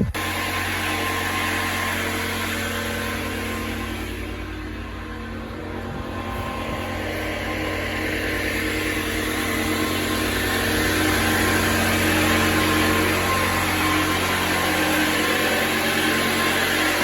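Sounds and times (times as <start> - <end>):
construction machinery humming: 0.0 - 17.0.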